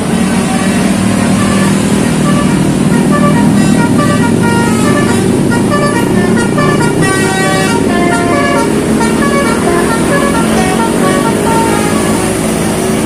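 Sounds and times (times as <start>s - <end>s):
bus multi-tone horn tune: 0.0s - 13.0s
engines rumbling on road: 0.0s - 13.0s.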